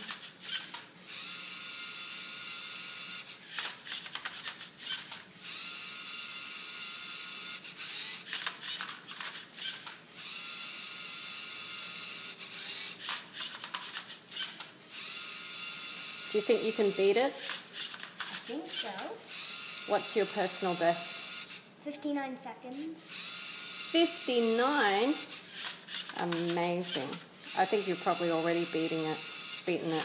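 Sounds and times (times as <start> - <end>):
servo motors whirring: 0.0 - 21.7, 22.7 - 30.0.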